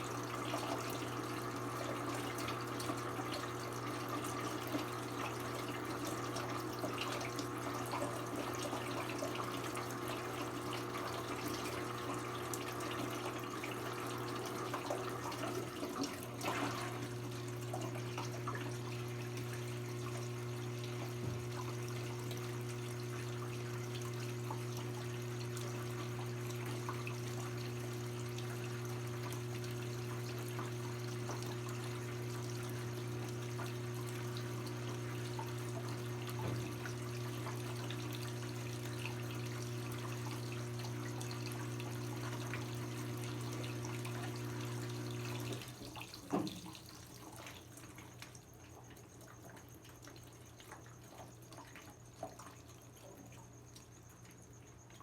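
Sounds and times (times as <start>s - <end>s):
washing machine electric hum: 0.0s - 55.0s
water running in washing machine: 0.0s - 55.0s.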